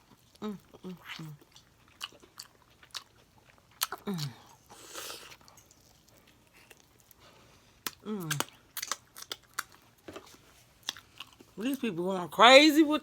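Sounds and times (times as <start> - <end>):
chewing with wet clicks: 0.0 - 11.6.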